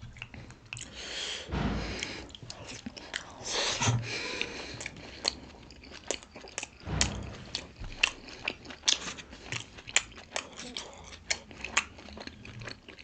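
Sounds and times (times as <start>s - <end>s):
close chewing with mouth smacks: 0.0s - 1.1s, 2.0s - 13.0s.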